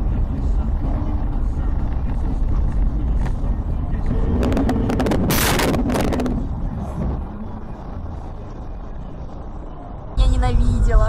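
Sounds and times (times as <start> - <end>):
muffled low rumble: 0.0 - 11.0.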